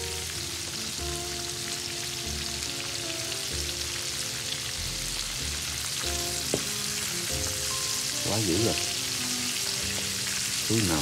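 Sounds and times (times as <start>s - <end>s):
background music: 0.0s - 11.0s
crackling deep-frying sizzle: 0.0s - 11.0s.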